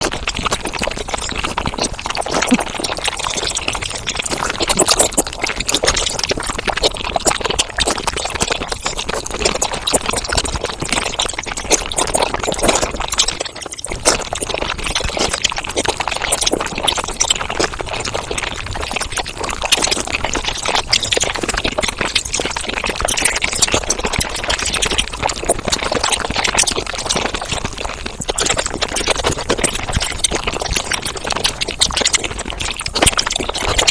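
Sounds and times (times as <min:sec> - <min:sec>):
sped-up chewing and slurping: 0:00.0 - 0:33.9.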